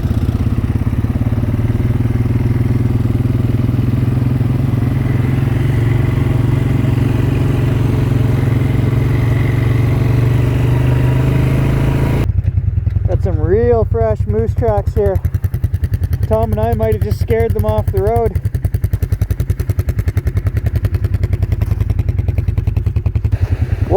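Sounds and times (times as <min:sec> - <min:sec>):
atv engine droning: 0:00.0 - 0:23.9.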